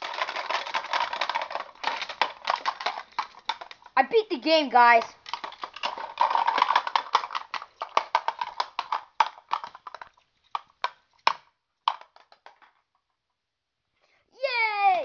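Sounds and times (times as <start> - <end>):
wooden wand knocking plastic toys: 0.0 - 12.9.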